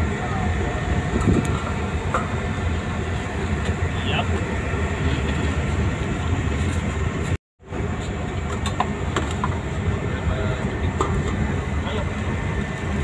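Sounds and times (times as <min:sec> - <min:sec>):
ship engine rumble: 0:00.0 - 0:13.0
wind noise: 0:00.0 - 0:13.0.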